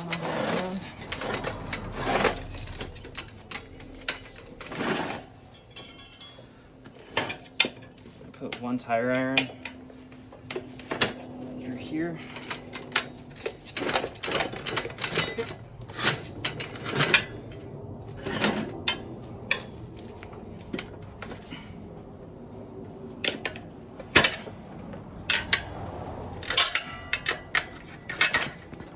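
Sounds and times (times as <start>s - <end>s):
tire irons clanking on wheel rim: 0.0s - 28.9s.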